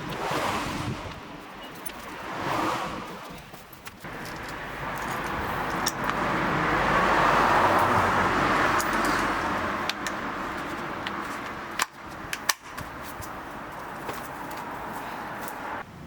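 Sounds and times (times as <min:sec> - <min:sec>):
motor vehicle passing by: 0:00.0 - 0:15.8.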